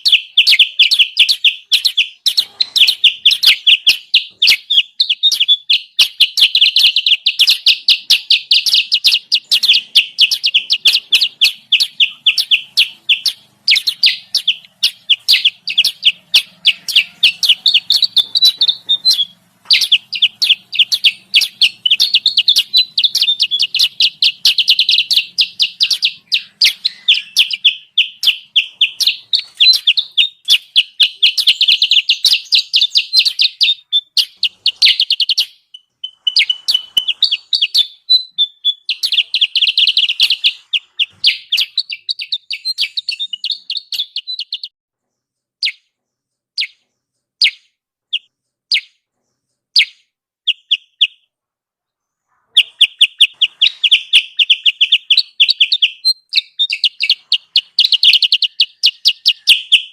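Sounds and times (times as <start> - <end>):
bird rapid high chirping: 0.0 - 51.3, 52.0 - 59.9.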